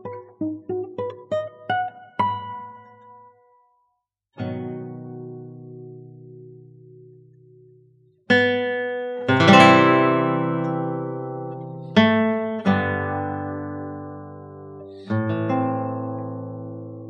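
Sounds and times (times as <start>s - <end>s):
acoustic guitar strumming: 0.0s - 3.6s, 4.4s - 17.0s.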